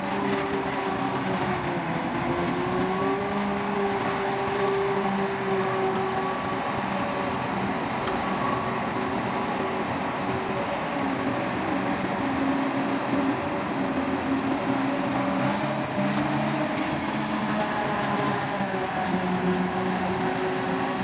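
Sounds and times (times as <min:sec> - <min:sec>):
harvester and tractor engine running: 0:00.0 - 0:21.0.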